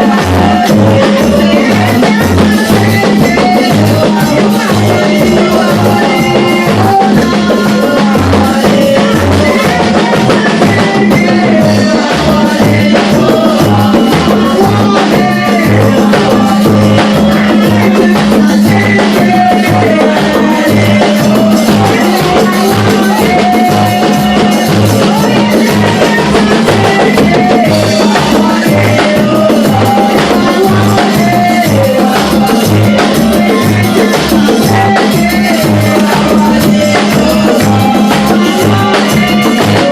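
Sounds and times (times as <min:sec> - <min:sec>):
drum kit steady beat: 0:00.0 - 0:39.9.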